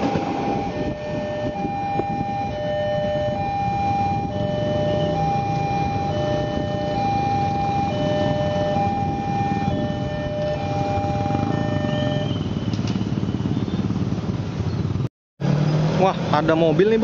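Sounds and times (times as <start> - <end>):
two-tone crossing alarm: 0.0 - 14.0
motorcycle engines: 0.0 - 17.0
traffic: 0.0 - 17.0.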